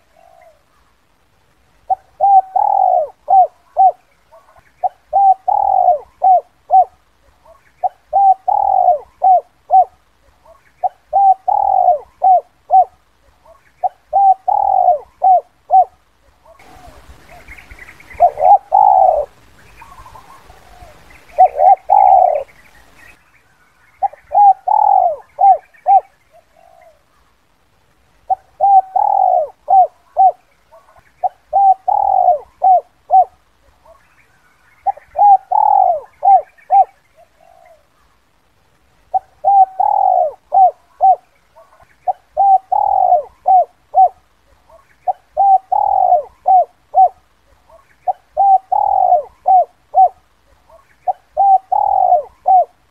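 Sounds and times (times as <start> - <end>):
dove cooing: 0.0 - 0.9, 1.8 - 23.0, 24.0 - 27.2, 28.2 - 34.1, 34.8 - 38.2, 39.0 - 52.9.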